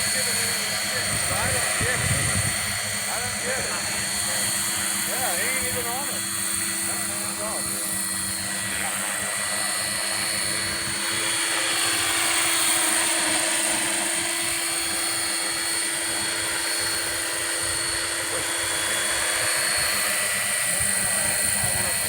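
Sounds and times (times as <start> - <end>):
model helicopter rotor whine: 0.0 - 22.0.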